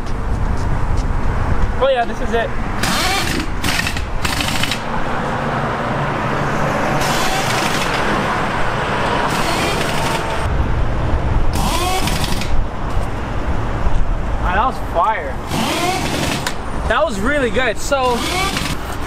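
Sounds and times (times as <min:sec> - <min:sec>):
road traffic engine rumble: 0:00.0 - 0:19.0
vehicles passing with hiss: 0:00.0 - 0:19.0.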